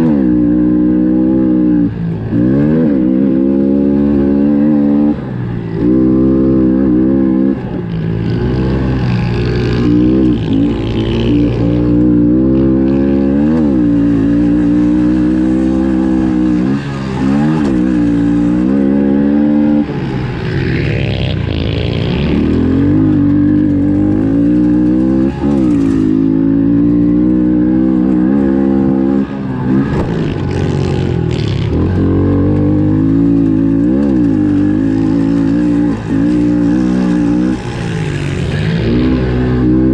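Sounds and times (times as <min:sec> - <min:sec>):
motorbike engine racing: 0:00.0 - 0:39.9.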